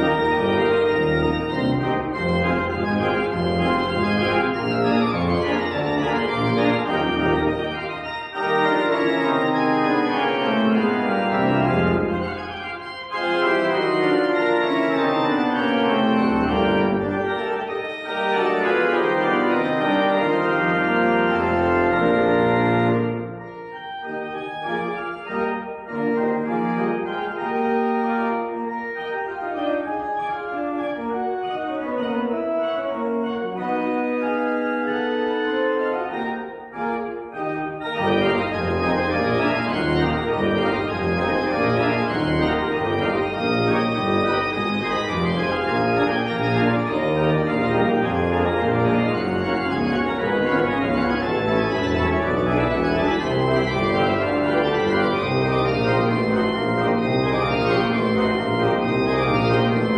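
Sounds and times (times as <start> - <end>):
pipe organ playing: 0.0 - 59.9.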